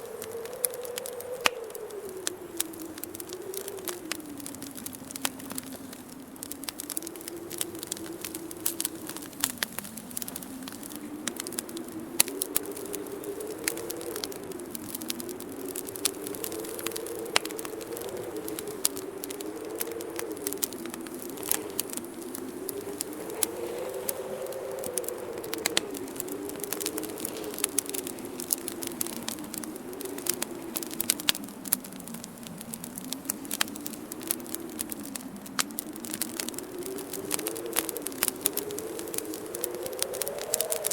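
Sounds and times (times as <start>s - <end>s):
wind howling: 0.0s - 40.9s
wood fire crackling and popping: 0.0s - 40.9s.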